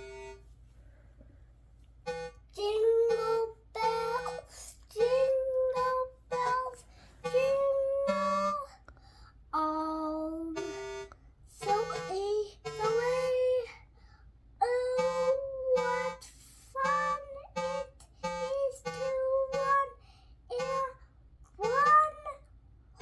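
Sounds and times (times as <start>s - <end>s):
child singing: 2.2s - 8.9s, 9.5s - 14.0s, 14.6s - 21.0s, 21.6s - 22.5s.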